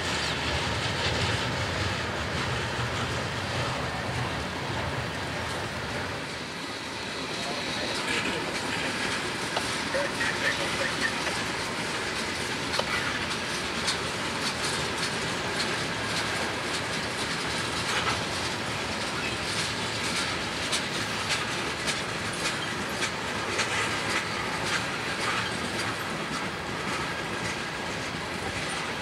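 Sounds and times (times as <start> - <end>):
train wheels rumbling on rail: 0.0 - 29.0
wheels clicking over rail joints: 0.1 - 29.0.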